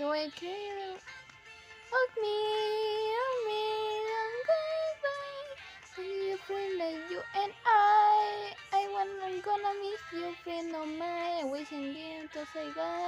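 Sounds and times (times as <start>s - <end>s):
high childlike singing voice: 0.0s - 1.0s, 1.9s - 13.0s.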